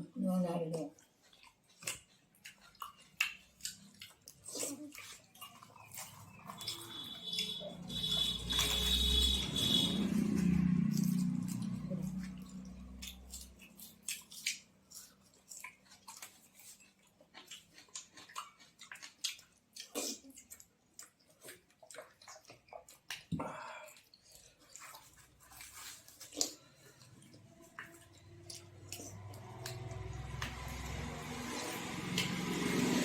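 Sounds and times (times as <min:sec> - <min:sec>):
people chewing and smacking: 0:00.8 - 0:33.0.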